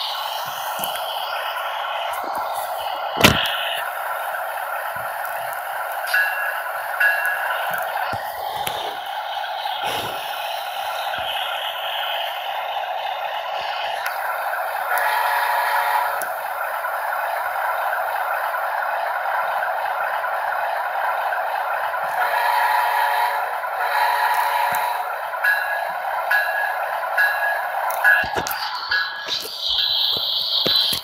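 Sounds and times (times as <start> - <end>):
rail clatter: 0.0 - 18.3, 24.3 - 31.0
model train running: 0.0 - 31.0.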